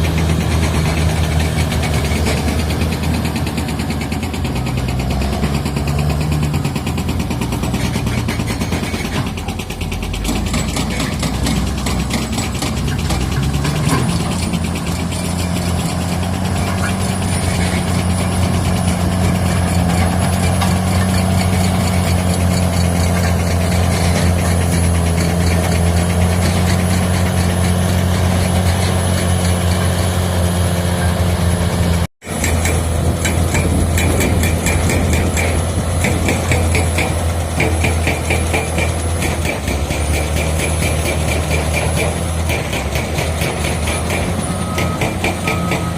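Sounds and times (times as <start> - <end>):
heavy diesel engine droning: 0.0 - 45.9.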